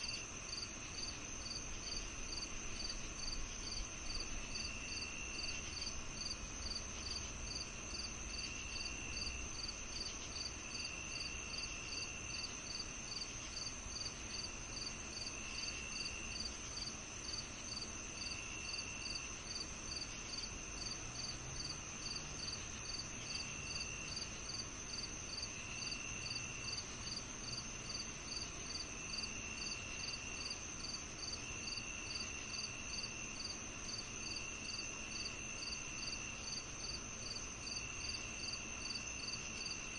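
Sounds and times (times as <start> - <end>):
regular cricket chirp: 0.0 - 39.9
steady high insect trill: 0.0 - 39.9.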